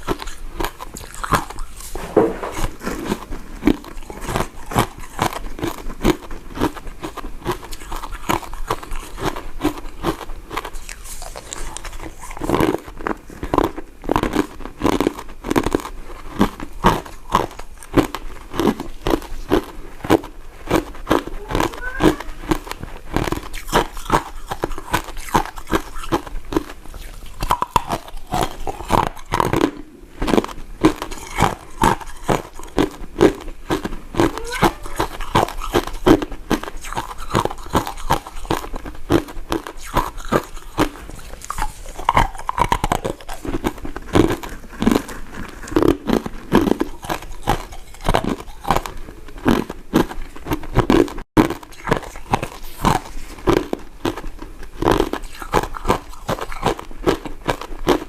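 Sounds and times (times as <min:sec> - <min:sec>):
chewing mint candy: 0:00.0 - 0:58.0
mouth clicks and smacks: 0:02.6 - 0:58.0.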